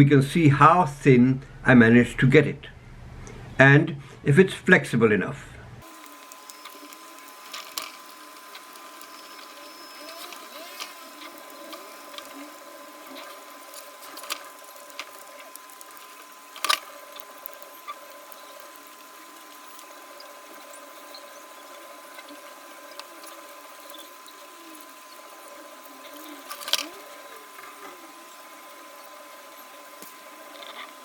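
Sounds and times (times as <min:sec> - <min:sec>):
steady high-pitched hum: 0:00.0 - 0:31.0
silicone patch peeling clicks: 0:05.8 - 0:31.0.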